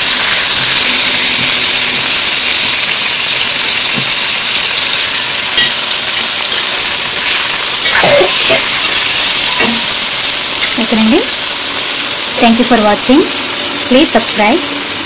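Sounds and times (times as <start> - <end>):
eggs sizzling in metal pan: 0.0 - 15.0.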